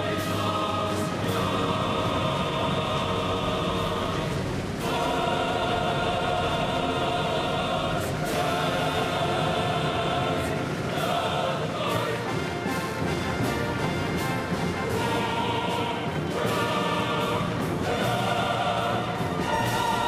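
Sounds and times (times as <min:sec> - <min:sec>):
choir singing held chords: 0:00.0 - 0:20.0.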